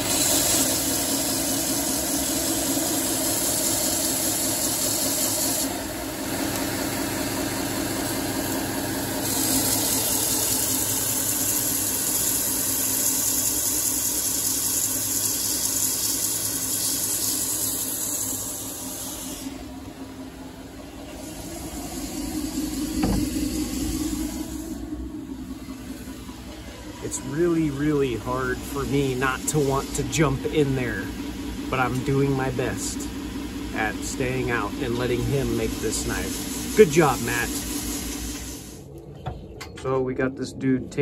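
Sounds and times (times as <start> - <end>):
belt sander grinding: 0.0 - 38.8.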